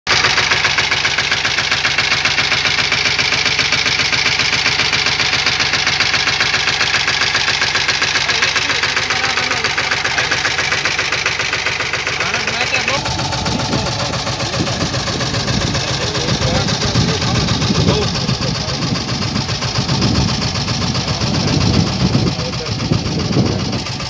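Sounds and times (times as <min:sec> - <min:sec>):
diesel engine knocking: 0:00.1 - 0:24.0.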